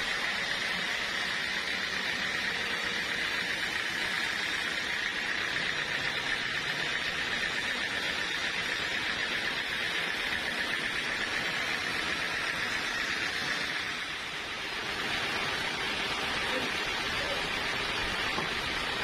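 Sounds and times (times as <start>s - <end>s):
sawmill saw cutting log: 0.0s - 19.0s.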